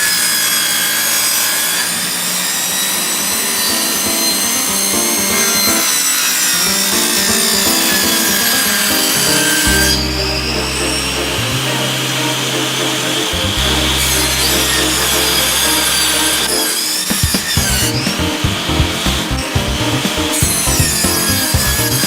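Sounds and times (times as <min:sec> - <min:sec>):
saw cutting wood: 0:00.0 - 0:22.0
instrumental background music: 0:03.1 - 0:06.0, 0:06.7 - 0:22.0.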